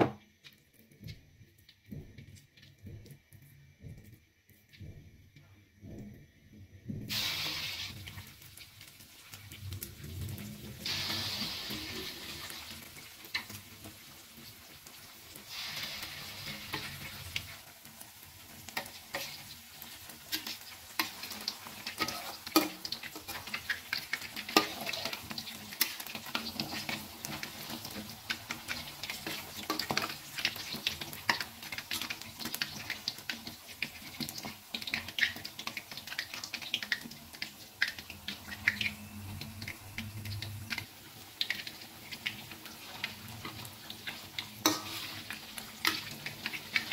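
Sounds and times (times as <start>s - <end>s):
meatballs sizzling in hot oil: 0.0s - 46.9s.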